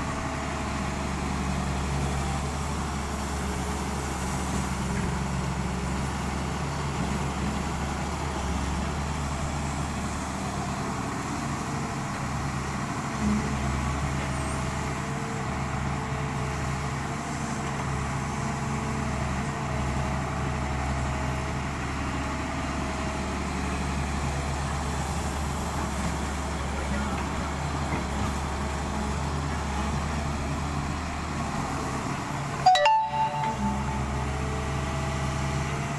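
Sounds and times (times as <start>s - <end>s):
excavator diesel engine running: 0.0s - 32.6s.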